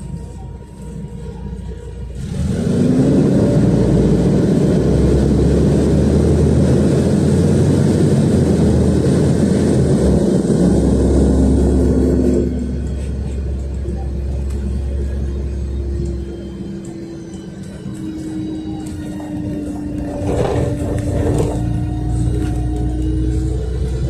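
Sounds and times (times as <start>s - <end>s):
bus engine pulling away: 0.0s - 24.0s.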